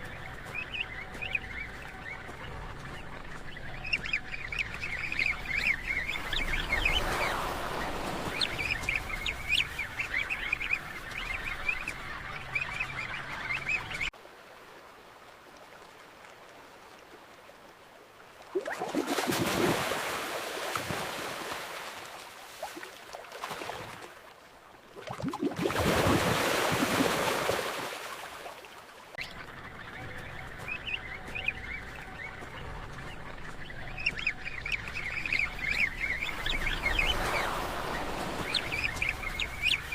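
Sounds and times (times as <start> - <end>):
rushes of water: 0.0 - 39.9.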